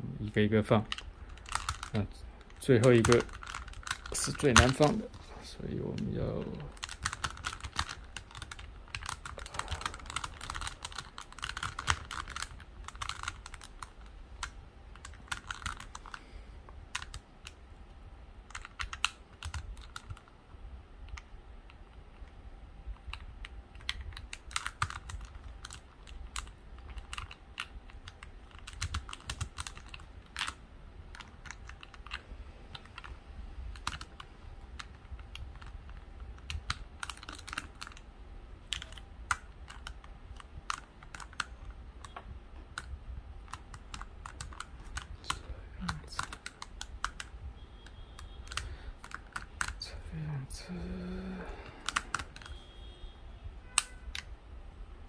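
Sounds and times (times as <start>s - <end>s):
plastic puzzle pieces clicking: 0.8s - 5.1s, 5.9s - 16.3s, 16.9s - 17.6s, 18.5s - 20.3s, 23.0s - 49.8s, 51.3s - 52.6s.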